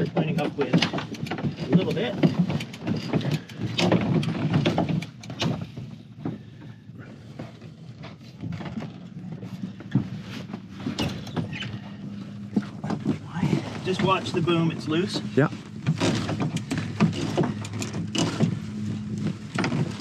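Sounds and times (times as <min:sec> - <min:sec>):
outboard engine drone: 0:00.0 - 0:20.0
sail and rigging flapping: 0:00.0 - 0:20.0.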